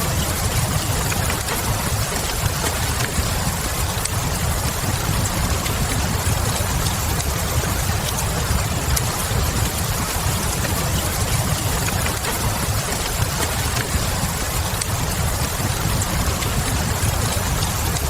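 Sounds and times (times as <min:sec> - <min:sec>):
steady rain: 0:00.0 - 0:18.0
wood fire crackling: 0:00.0 - 0:18.0.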